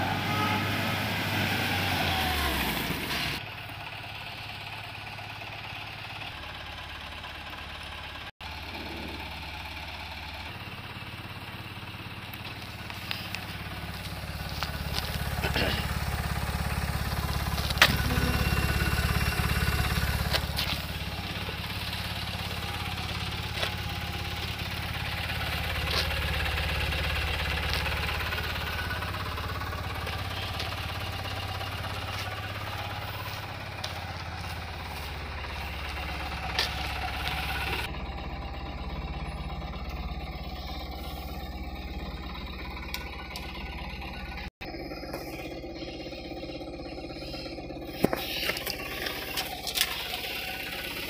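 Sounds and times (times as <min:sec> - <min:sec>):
small engine idling: 0:00.0 - 0:51.0.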